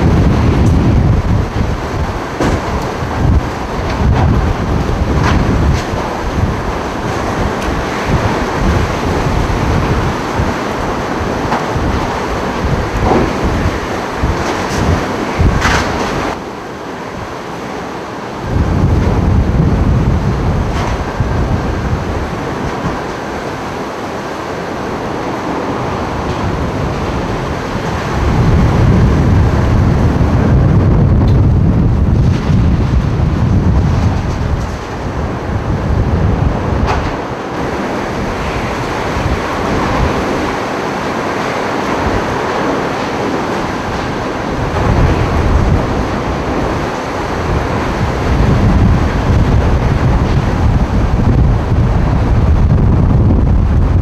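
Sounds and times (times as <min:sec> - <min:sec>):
driving rain: 0:00.0 - 0:54.0
hurricane wind: 0:00.0 - 0:54.0
wind buffeting microphone: 0:00.0 - 0:54.0.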